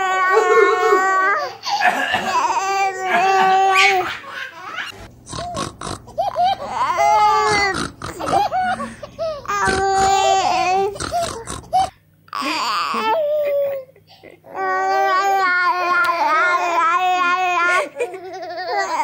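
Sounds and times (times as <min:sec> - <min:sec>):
baby laughing: 0:00.0 - 0:19.0.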